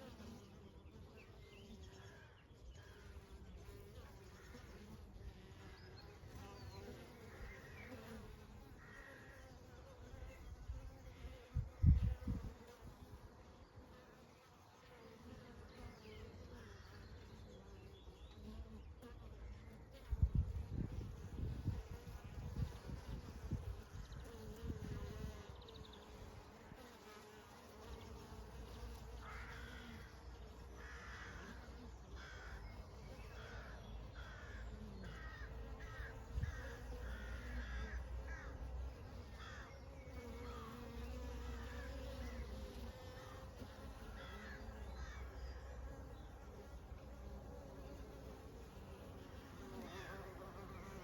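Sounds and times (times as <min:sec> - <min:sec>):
honey bees buzzing: 0:00.0 - 0:51.0.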